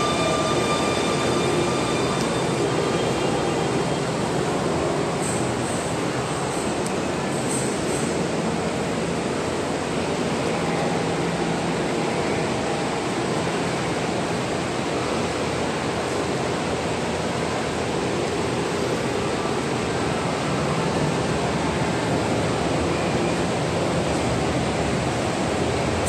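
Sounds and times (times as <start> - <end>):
subway platform rushing noise: 0.0 - 26.0.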